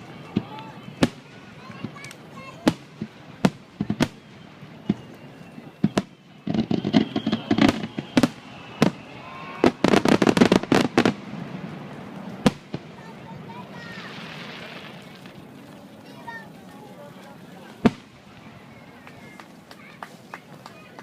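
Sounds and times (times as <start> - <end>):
fireworks bangs: 0.0 - 15.6, 17.7 - 20.9.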